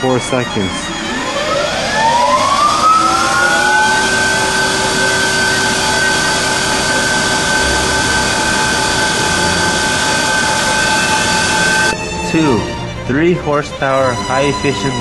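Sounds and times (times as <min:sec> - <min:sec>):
lathe motor whine: 0:00.0 - 0:15.0.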